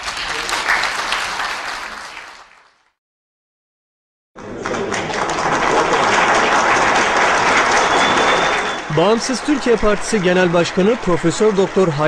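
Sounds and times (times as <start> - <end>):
audience applause: 0.0 - 2.9, 4.4 - 12.0.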